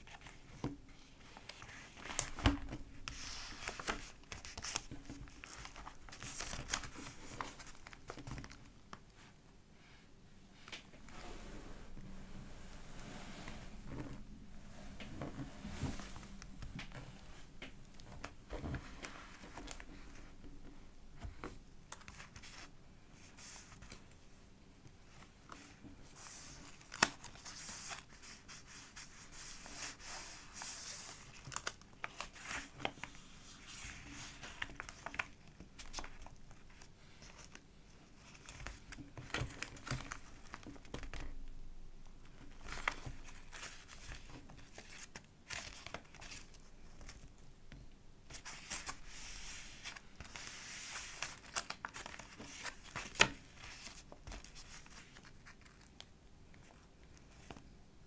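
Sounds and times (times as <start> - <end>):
paper pages crinkling and rustling: 0.0 - 9.3, 15.0 - 20.4, 21.2 - 24.1, 25.1 - 41.4, 42.3 - 47.4, 48.3 - 57.7.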